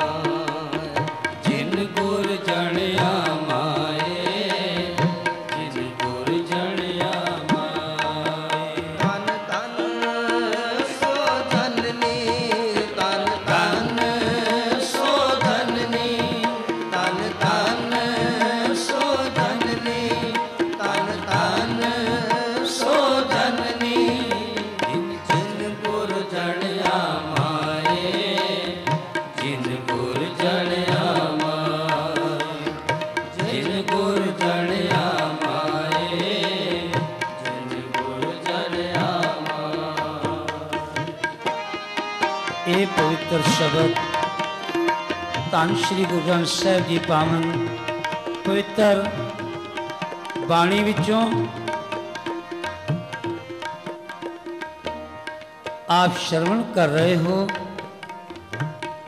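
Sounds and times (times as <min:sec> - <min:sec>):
harmoniums playing melody: 0:00.0 - 0:59.0
tabla beat: 0:00.0 - 0:59.0.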